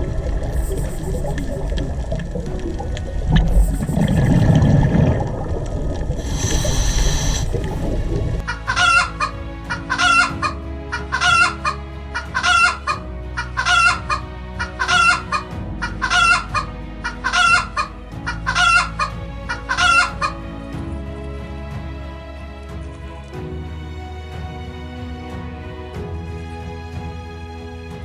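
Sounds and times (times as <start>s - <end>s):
soft background music: 0.0s - 28.0s.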